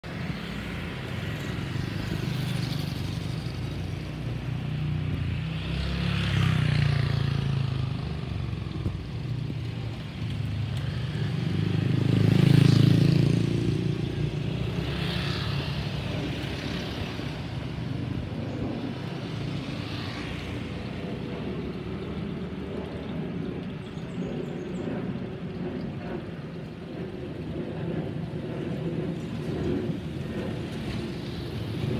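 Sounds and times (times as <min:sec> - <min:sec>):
jet engines rumbling overhead: 0:00.0 - 0:31.9.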